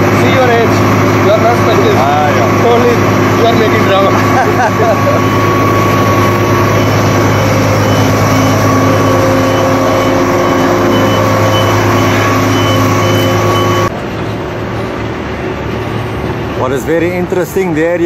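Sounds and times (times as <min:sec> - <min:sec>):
crane diesel engine running: 0:00.0 - 0:18.0.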